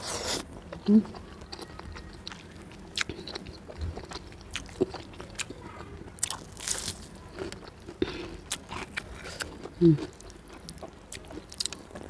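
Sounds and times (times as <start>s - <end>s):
chewing with wet mouth clicks: 0.7s - 5.6s, 6.2s - 12.0s.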